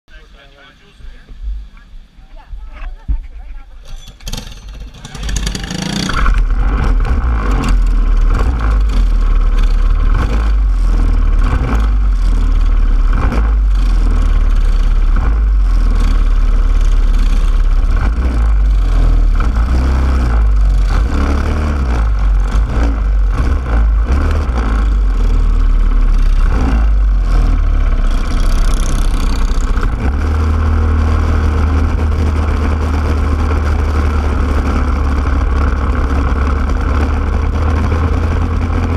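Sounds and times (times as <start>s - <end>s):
kart engines running: 2.7s - 38.9s
kart engine revving up: 3.8s - 38.9s.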